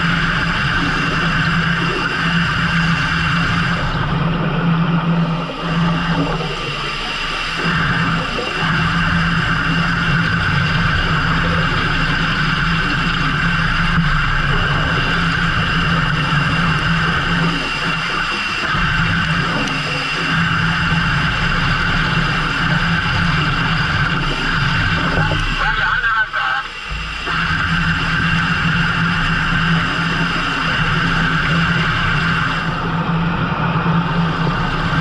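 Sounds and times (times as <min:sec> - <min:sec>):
boat engine running: 0:00.0 - 0:35.0.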